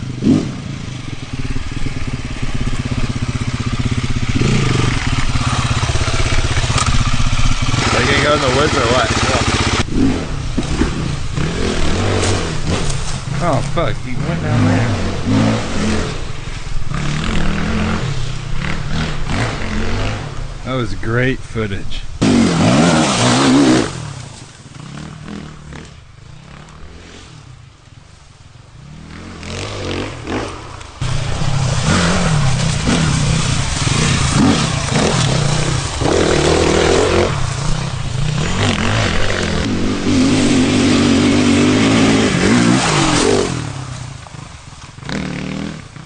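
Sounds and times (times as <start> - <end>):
dirt bike engine revving: 0.0 - 27.7, 28.8 - 46.0.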